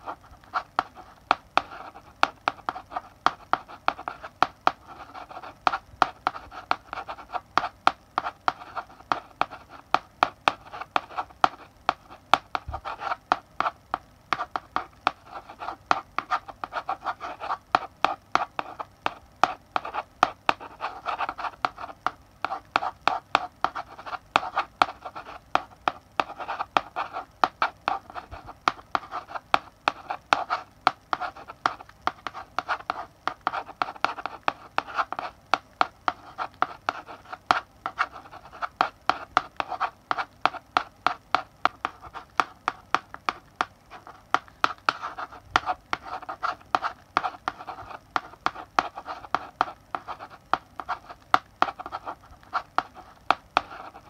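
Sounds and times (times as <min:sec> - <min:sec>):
chalk tapping and scratching on blackboard: 0:00.0 - 0:54.0.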